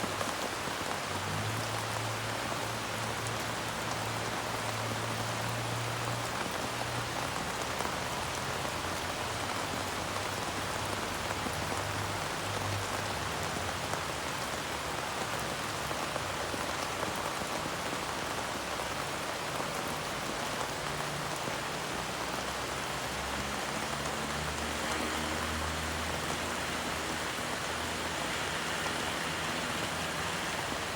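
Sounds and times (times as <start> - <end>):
steady rain pattering: 0.0 - 30.9.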